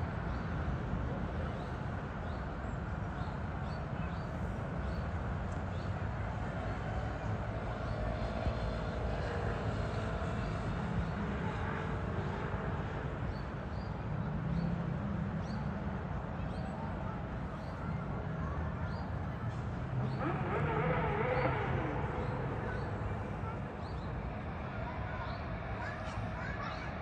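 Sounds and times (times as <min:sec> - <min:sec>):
distant traffic rumble: 0:00.0 - 0:27.0
distant voice: 0:00.1 - 0:27.0.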